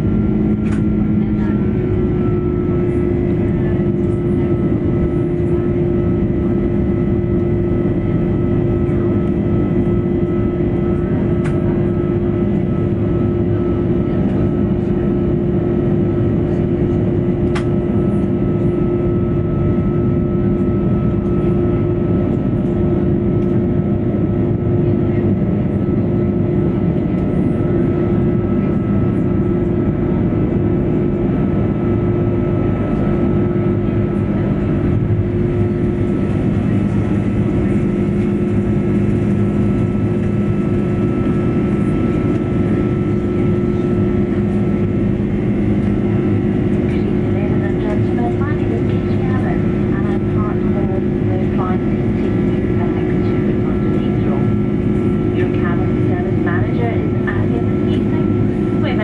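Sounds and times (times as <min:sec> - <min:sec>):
jet engine cabin drone: 0:00.0 - 0:59.0
steady hum tone: 0:00.0 - 0:59.0.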